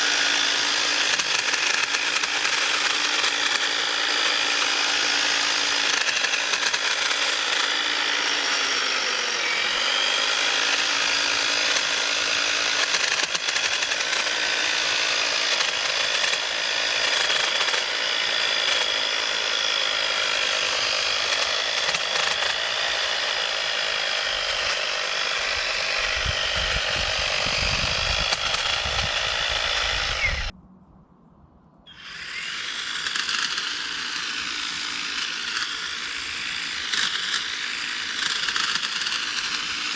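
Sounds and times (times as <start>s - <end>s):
electric hedge trimmer running: 0.0s - 30.5s, 31.9s - 39.9s.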